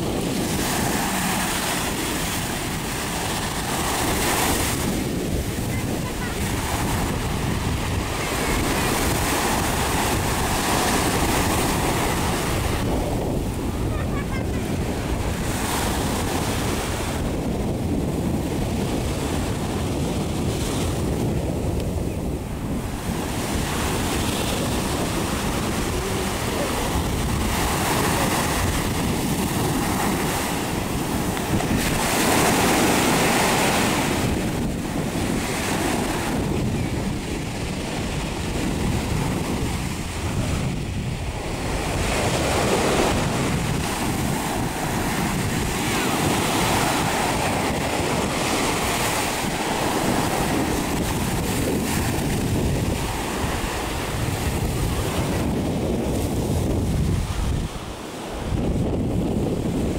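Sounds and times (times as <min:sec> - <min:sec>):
small waves breaking on sand: 0:00.0 - 0:59.9
wind rumbling on microphone: 0:00.0 - 0:59.9.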